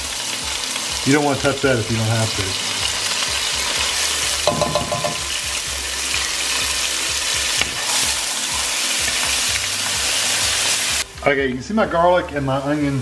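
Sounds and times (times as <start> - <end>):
onions sizzling in a pan: 0.0 - 11.1.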